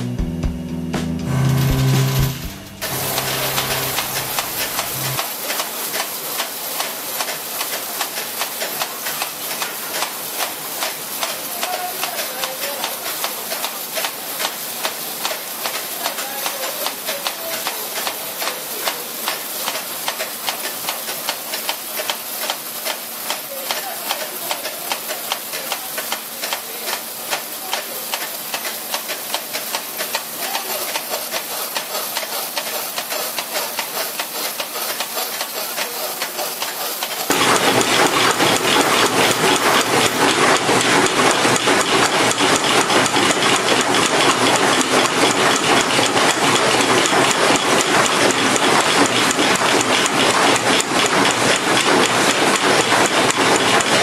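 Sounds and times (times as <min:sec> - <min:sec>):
machines clattering: 0:01.2 - 0:54.0.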